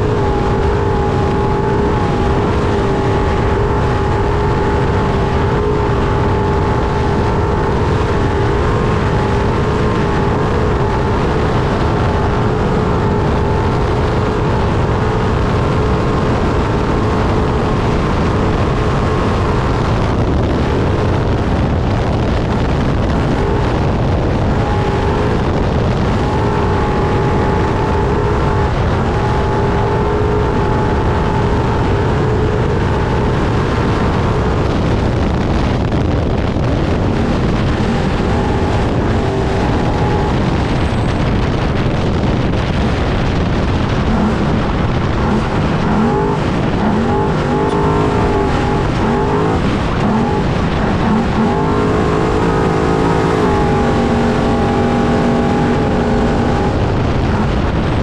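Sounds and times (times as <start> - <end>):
truck engine running hard: 0.0 - 58.0
truck rumbling and rattling: 0.0 - 58.0
wind: 0.0 - 58.0.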